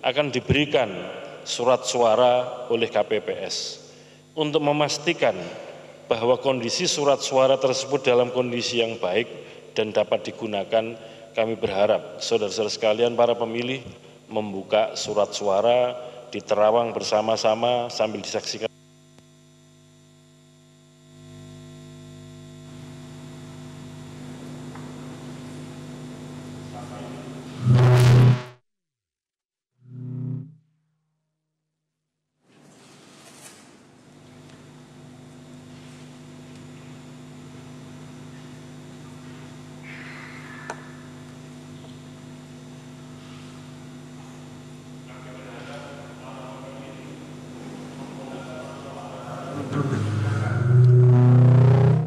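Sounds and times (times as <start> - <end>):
electrical mains hum: 0.0 - 27.9, 32.4 - 52.0.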